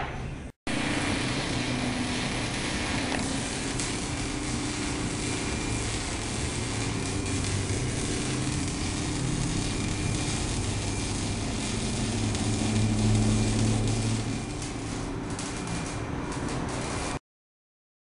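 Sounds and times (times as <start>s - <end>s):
low hum: 0.0s - 17.2s
welding arc crackling: 0.7s - 17.2s.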